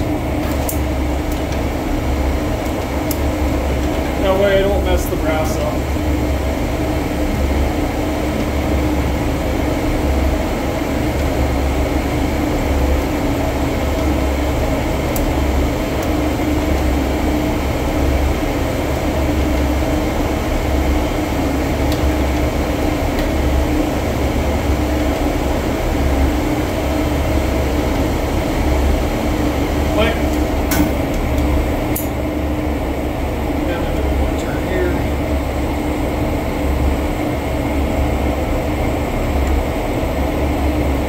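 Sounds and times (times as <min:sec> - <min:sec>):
boiler machinery drone: 0:00.0 - 0:41.0.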